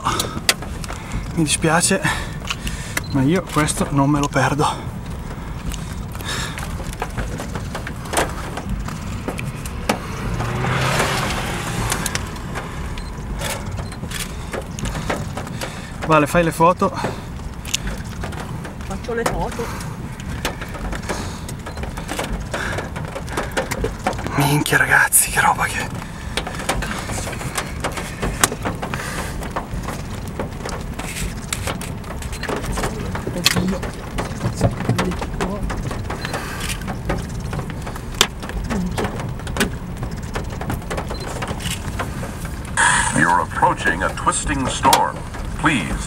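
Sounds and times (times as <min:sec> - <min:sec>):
raindrops tapping on car: 0:00.0 - 0:46.0
sharp impact ticks: 0:00.0 - 0:46.0
vehicle passing: 0:00.0 - 0:46.0
wind rumbling on microphone: 0:00.0 - 0:46.0.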